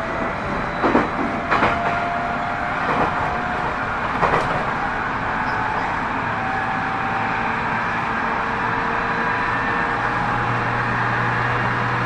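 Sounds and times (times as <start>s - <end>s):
electric train rumble: 0.0s - 12.0s
train whining tones: 0.0s - 12.0s.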